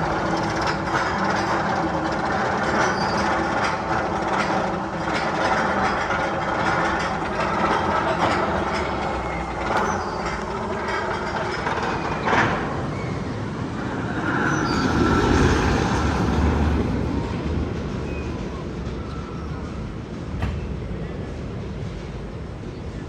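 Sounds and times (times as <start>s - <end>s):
roller coaster rumbling on track: 0.0s - 23.0s.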